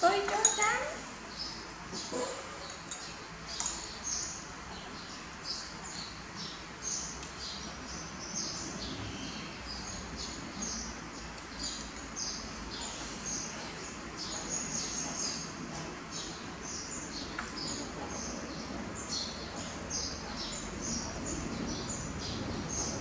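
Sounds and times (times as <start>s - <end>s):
low background noise: 0.0s - 23.0s
small birds chirping: 0.0s - 23.0s.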